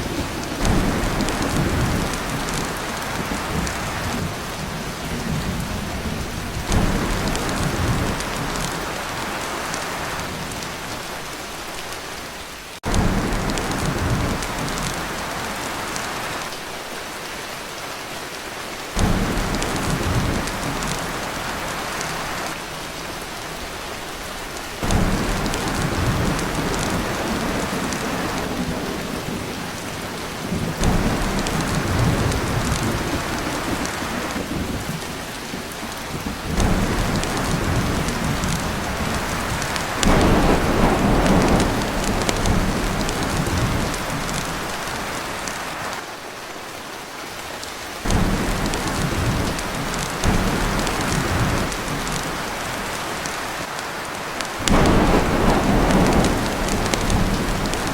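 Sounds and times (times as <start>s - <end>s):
thunder rumbling: 0.0s - 11.3s, 12.8s - 16.4s, 19.0s - 23.7s, 24.8s - 45.8s, 48.1s - 53.7s, 54.5s - 57.9s
heavy rain on a tin roof: 0.0s - 57.9s.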